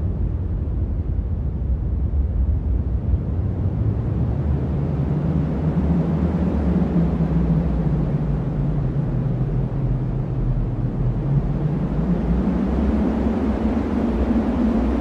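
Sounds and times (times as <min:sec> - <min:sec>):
wind deep low rumble: 0:00.0 - 0:15.0.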